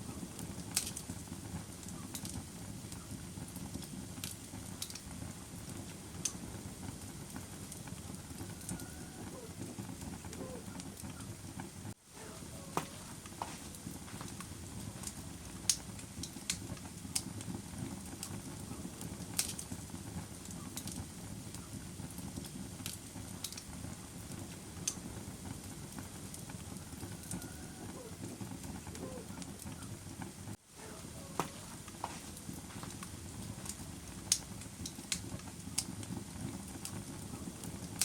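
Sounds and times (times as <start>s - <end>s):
burning wood crackling and popping: 0.0s - 38.0s
flames rumbling: 0.0s - 38.0s.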